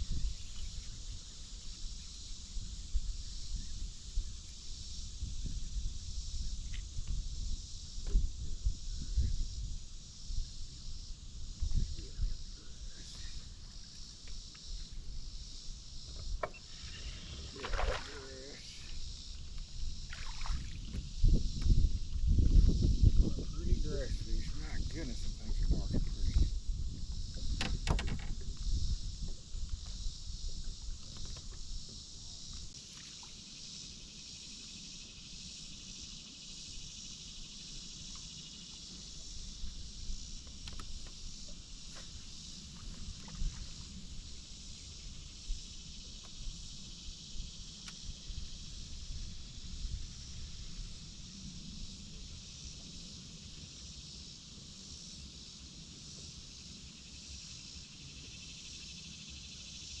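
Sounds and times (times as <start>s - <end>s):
insects droning: 0.0s - 60.0s.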